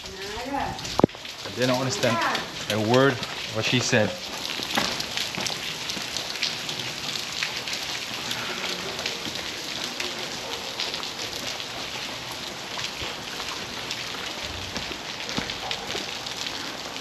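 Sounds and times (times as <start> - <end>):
rain falling on street: 0.0 - 17.0
raindrops ticking: 0.0 - 17.0.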